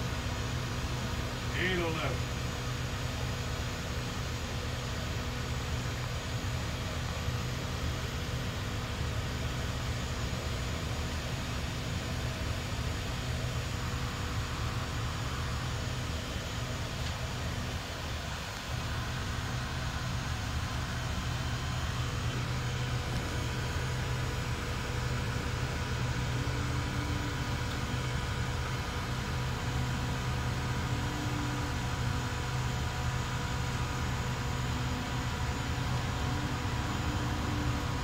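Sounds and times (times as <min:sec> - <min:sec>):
jet engines rumbling overhead: 0:00.0 - 0:38.0.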